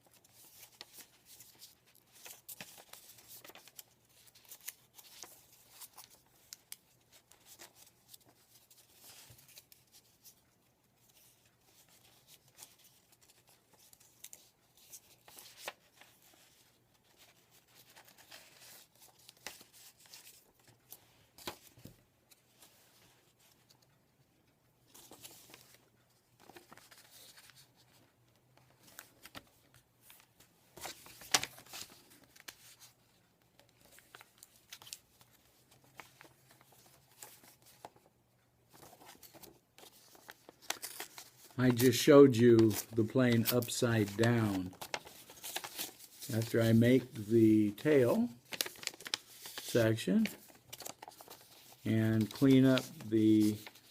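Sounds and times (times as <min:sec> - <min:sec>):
paper being folded and creased: 0:00.0 - 0:24.0, 0:24.9 - 0:38.1, 0:38.7 - 0:53.9.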